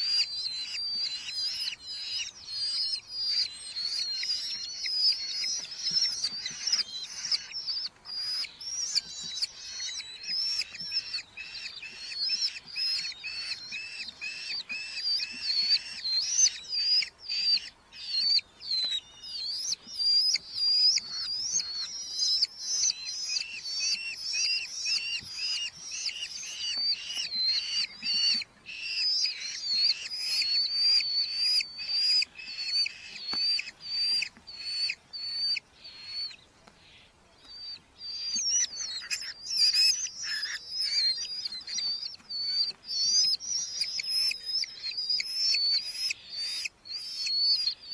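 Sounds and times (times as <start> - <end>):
falcons shrill calling: 0.0 - 47.9.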